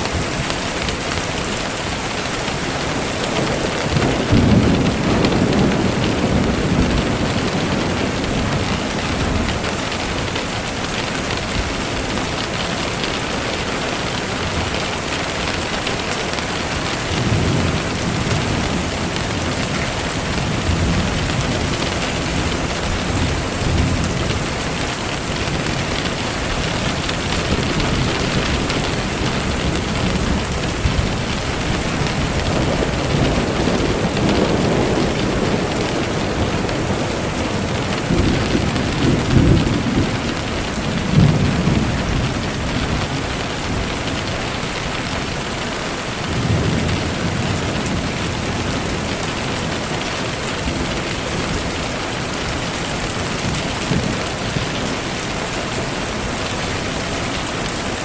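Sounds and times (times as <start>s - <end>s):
steady rain: 0.0s - 58.0s
thunder rumbling: 0.0s - 58.0s.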